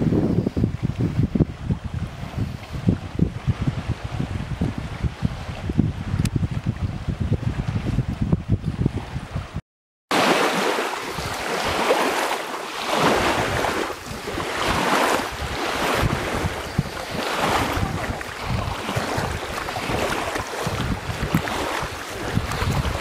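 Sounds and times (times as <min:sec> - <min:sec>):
wind buffeting microphone: 0:00.0 - 0:09.6, 0:10.8 - 0:23.0
rushing water: 0:00.0 - 0:23.0.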